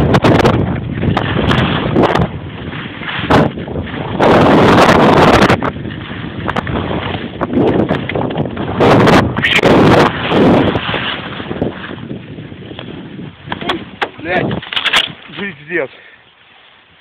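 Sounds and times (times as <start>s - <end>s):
wind rushing over microphone: 0.0s - 15.9s
skis scraping over packed snow: 0.0s - 17.0s.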